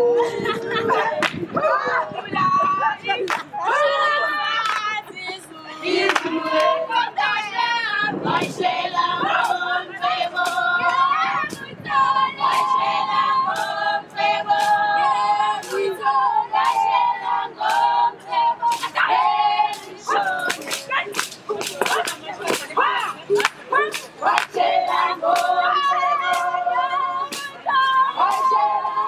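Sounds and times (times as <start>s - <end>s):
women singing together: 0.0s - 29.0s.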